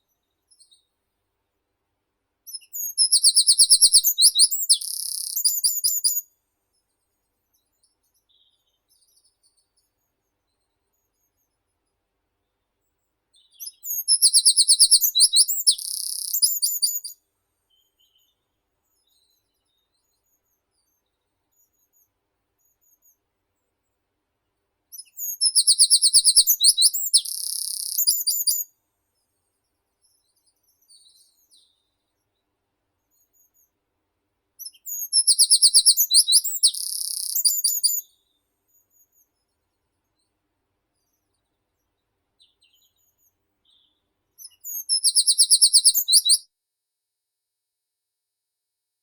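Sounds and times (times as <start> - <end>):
songbird song with buzzy trill: 0.0 - 1.0, 2.4 - 23.7, 24.9 - 28.8, 29.6 - 33.8, 34.6 - 46.5.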